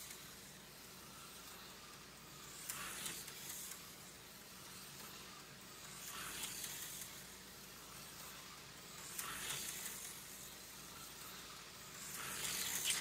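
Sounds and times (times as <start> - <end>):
slot car motor buzzing hiss: 0.0 - 13.0.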